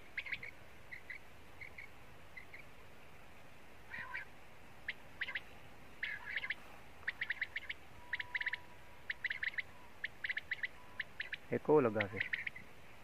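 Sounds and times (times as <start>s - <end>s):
quail calling: 0.0s - 2.7s, 3.9s - 12.7s.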